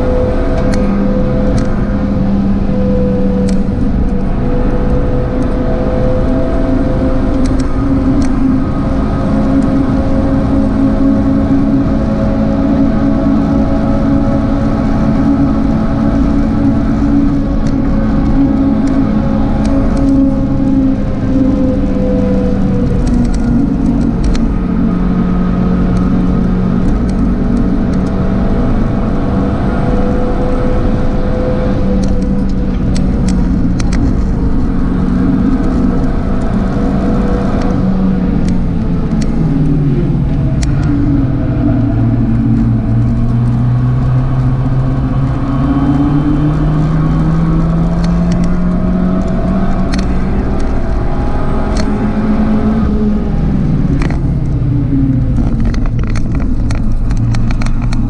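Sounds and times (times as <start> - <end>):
car engine revving high: 0.0 - 58.0.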